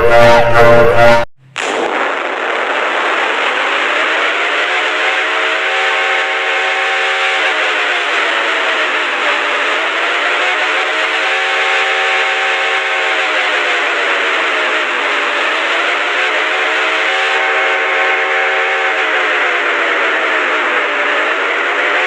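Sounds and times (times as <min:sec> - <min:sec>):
siren-like alarm tone: 0:00.0 - 0:01.3, 0:03.3 - 0:21.8.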